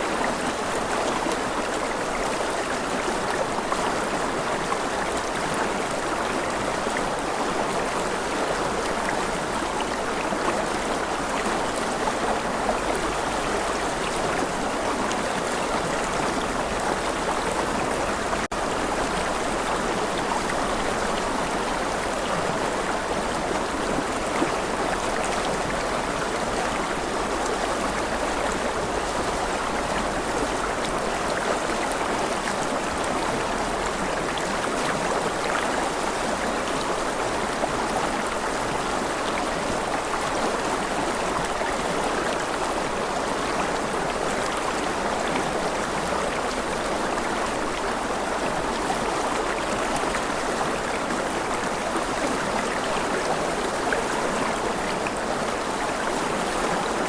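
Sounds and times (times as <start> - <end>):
stream running water: 0.0 - 57.0.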